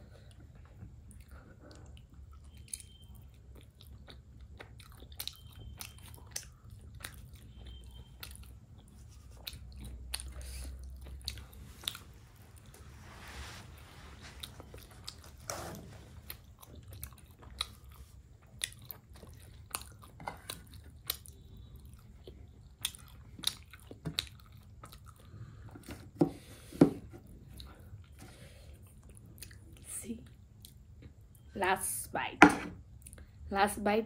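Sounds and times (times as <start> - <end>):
close chewing with mouth clicks: 0.0 - 12.9, 14.0 - 26.5, 27.2 - 31.5.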